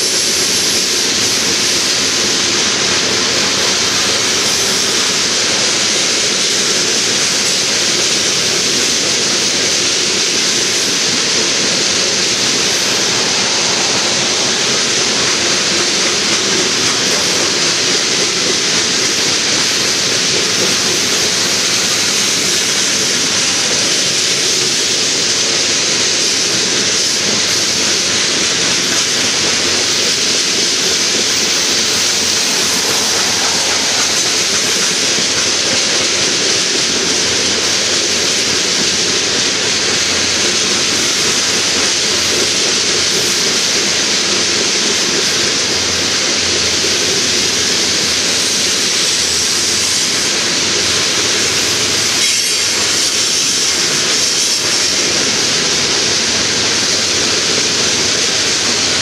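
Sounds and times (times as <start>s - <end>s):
train wheels running on rails: 0.0s - 59.0s.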